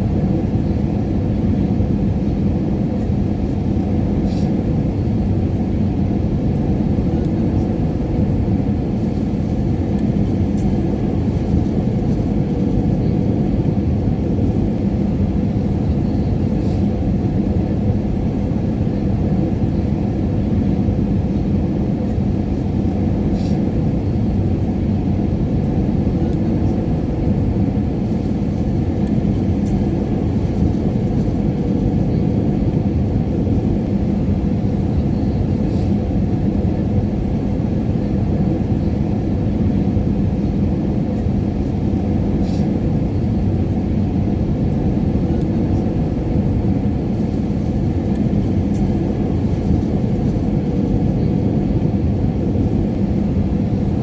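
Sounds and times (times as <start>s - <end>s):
airliner cabin engine rumble: 0.0s - 54.0s
constant hum: 0.0s - 54.0s.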